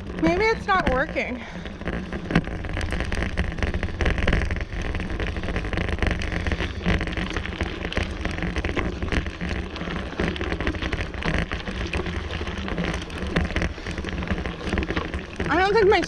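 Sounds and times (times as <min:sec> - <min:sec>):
rapid rattling and clicking: 0:00.0 - 0:16.0.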